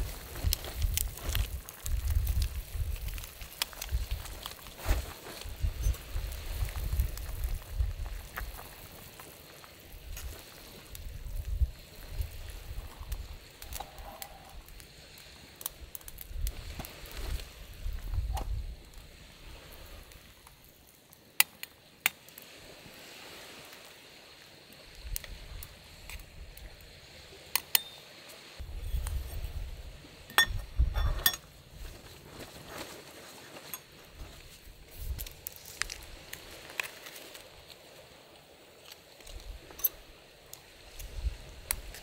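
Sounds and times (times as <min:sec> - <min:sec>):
pot of water boiling: 0:00.0 - 0:42.0.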